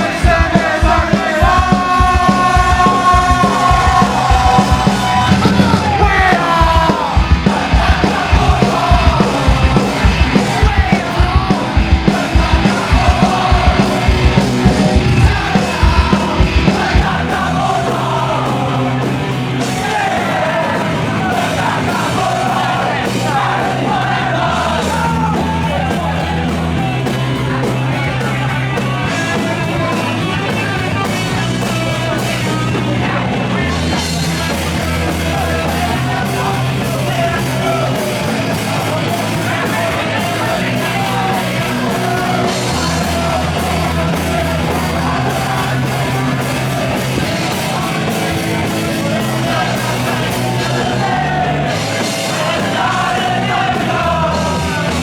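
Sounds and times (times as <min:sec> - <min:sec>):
person shouting singing: 0:00.0 - 0:55.0
punk rock band playing: 0:00.0 - 0:55.0.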